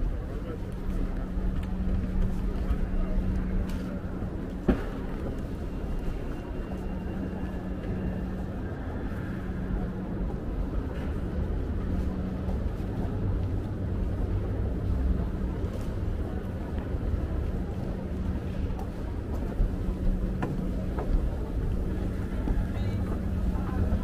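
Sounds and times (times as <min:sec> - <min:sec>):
urban background rumble: 0:00.0 - 0:24.0.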